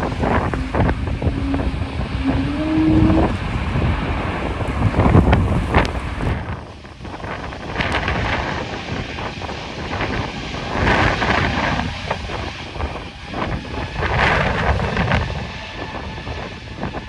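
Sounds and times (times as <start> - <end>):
low rumble: 0.0 - 15.8
wind buffeting microphone: 0.0 - 17.0.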